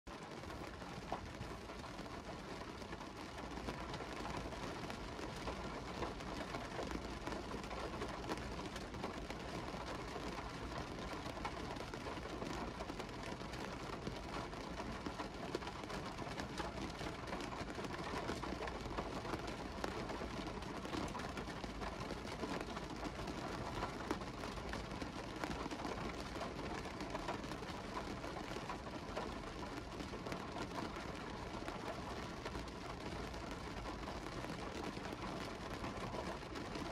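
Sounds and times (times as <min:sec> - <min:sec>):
rain drops on car window: 0:00.1 - 0:36.9.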